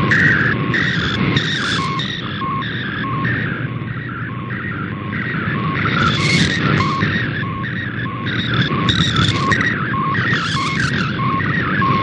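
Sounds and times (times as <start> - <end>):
shortwave static: 0.0 - 11.6
warbling data tone: 0.0 - 12.0.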